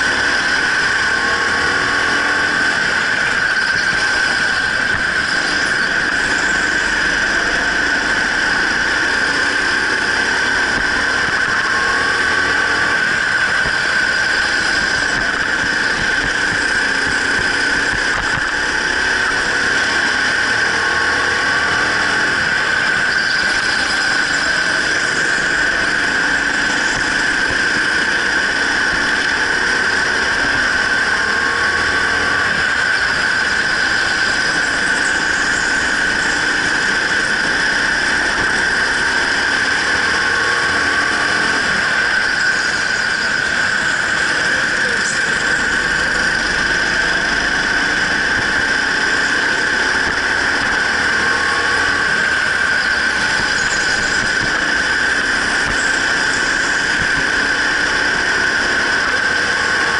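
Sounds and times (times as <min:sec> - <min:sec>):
go-kart engine whining: 0:00.0 - 0:59.9.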